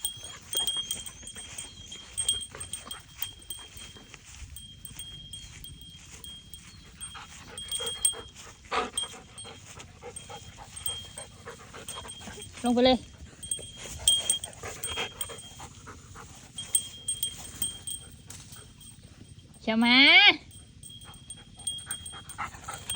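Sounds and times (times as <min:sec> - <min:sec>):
dog panting and whimpering: 0:00.0 - 0:19.4, 0:20.5 - 0:22.9.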